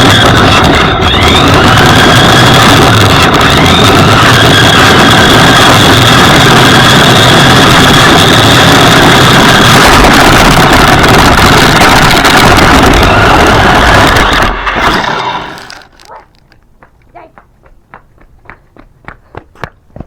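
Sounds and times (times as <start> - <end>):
thin high whine: 0.0 - 16.2
toy truck motor rumble and rattle: 0.0 - 16.5.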